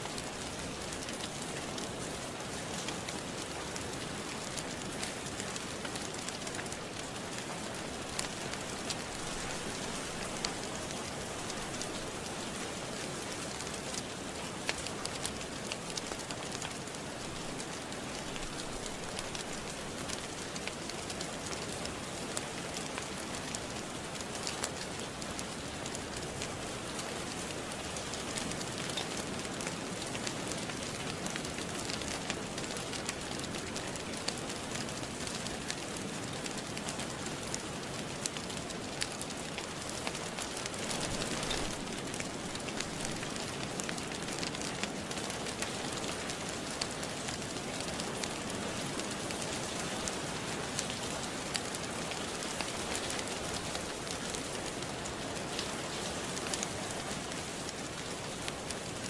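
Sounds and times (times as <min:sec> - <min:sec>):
steady rain falling: 0:00.0 - 0:59.0
wood fire crackling: 0:00.0 - 0:59.0.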